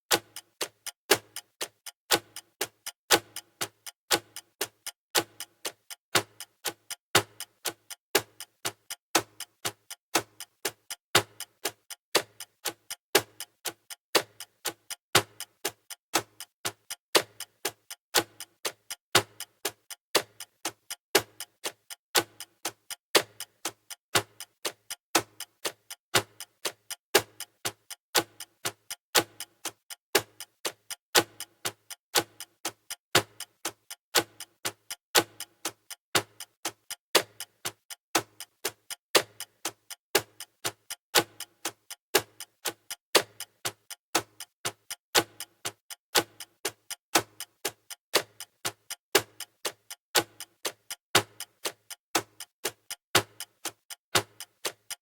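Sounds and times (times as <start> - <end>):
clock ticking: 0.1 - 55.0.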